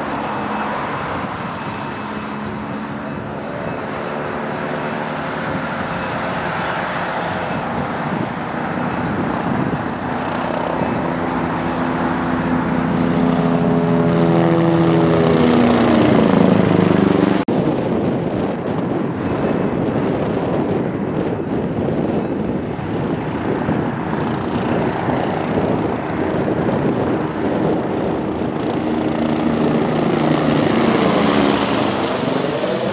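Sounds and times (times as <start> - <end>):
helicopter engine and rotor: 0.0 - 32.9.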